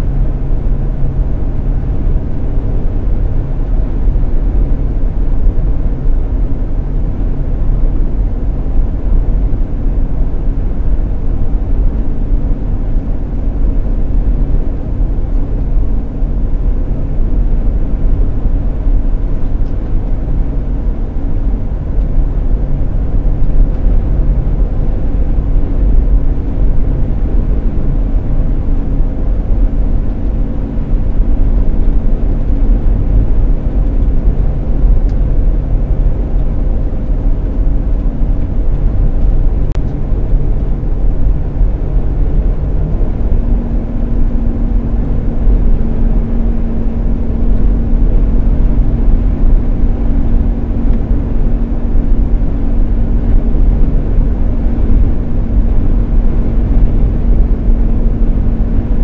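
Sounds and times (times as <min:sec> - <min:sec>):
engine drone: 0:00.0 - 0:59.0
road noise rumble: 0:00.0 - 0:59.0.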